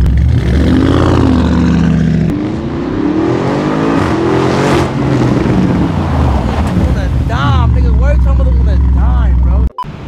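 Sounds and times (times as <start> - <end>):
car engine accelerating: 0.0 - 9.7.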